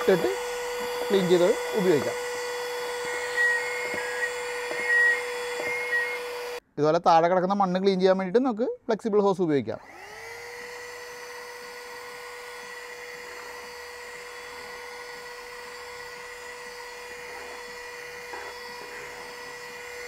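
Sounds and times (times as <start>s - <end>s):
handheld vacuum cleaner whining: 0.0s - 6.6s, 9.8s - 20.0s.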